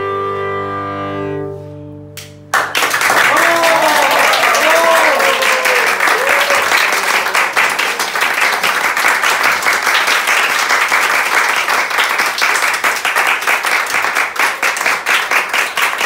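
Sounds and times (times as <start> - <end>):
audience applauding: 2.5 - 16.0.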